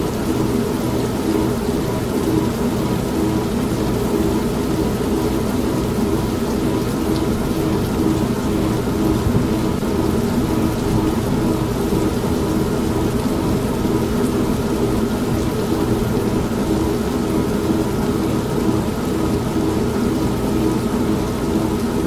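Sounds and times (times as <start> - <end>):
steady rain: 0.0 - 22.0
washing machine hum: 0.0 - 22.0.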